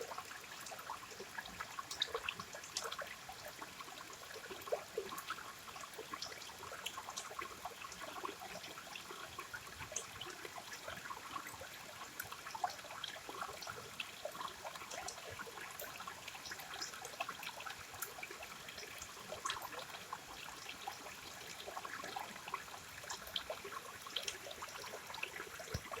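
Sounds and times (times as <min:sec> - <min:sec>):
river water flowing over stones: 0:00.0 - 0:26.0.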